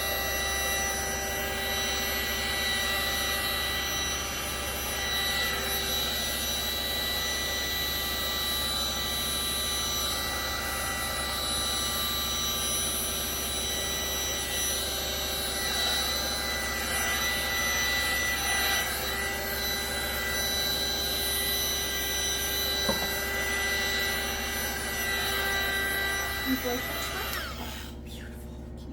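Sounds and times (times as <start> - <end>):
heat gun fan whining: 0.0 - 28.9.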